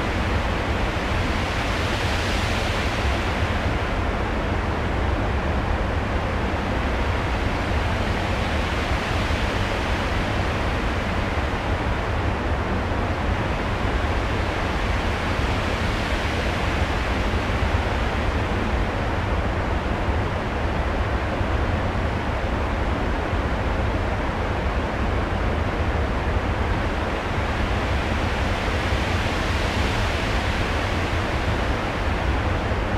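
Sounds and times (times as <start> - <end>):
steady rushing noise: 0.0 - 32.9.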